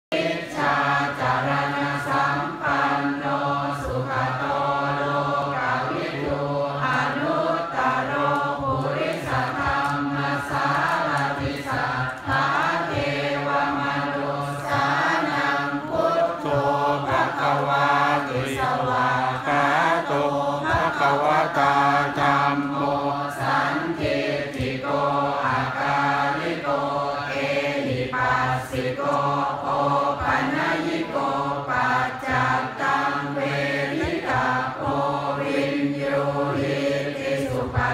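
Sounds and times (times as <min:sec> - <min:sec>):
people chanting in unison: 0:00.0 - 0:37.9.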